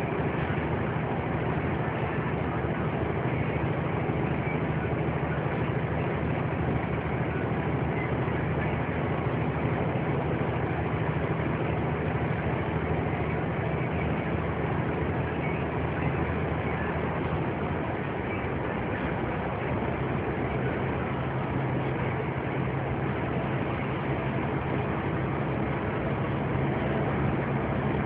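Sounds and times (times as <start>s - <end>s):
road noise: 0.0s - 28.0s
vehicle engine drone: 0.0s - 28.0s.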